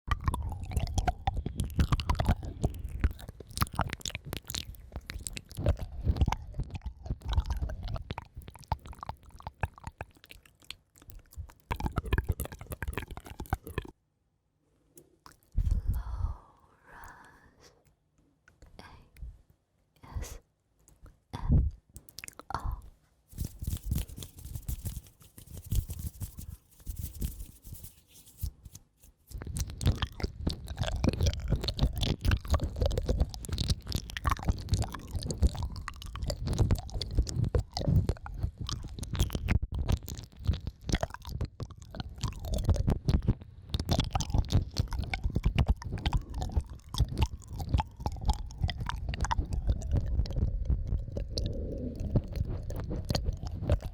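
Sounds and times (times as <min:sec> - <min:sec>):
wet chewing-like crackling: 0:00.0 - 0:14.0, 0:15.0 - 0:16.0, 0:22.0 - 0:53.9.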